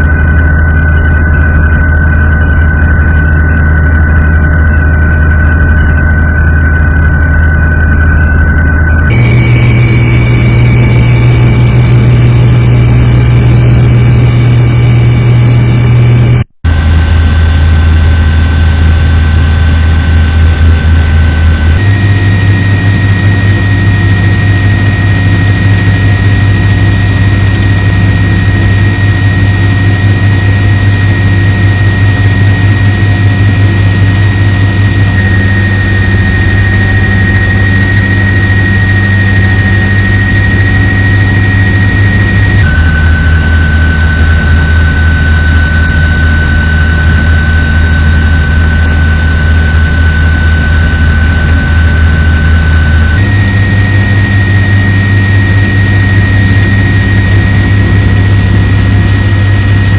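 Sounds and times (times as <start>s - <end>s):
helicopter turbine and rotor drone: 0.0s - 59.9s.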